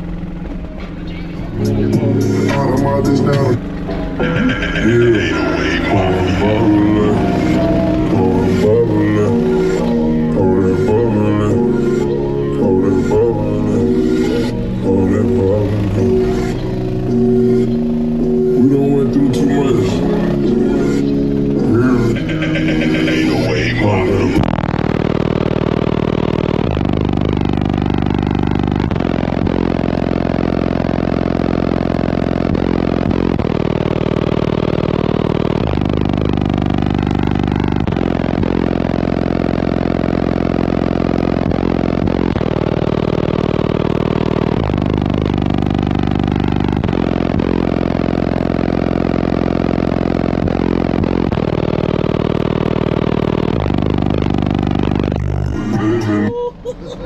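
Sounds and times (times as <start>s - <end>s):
bass-heavy music through car speakers: 0.0s - 57.0s.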